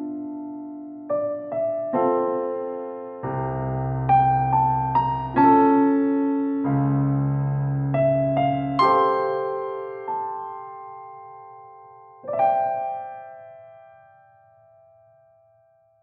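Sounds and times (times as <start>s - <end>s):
soft electric piano: 0.0s - 16.0s.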